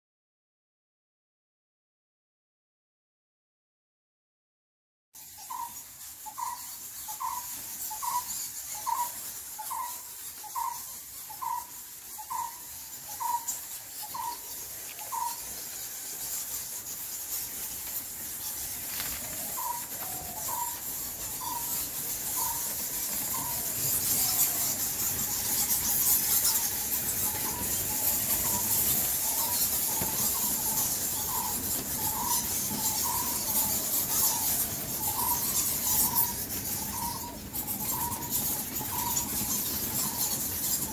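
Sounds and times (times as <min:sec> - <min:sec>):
bats squeaking and chattering: 0:05.2 - 0:40.9.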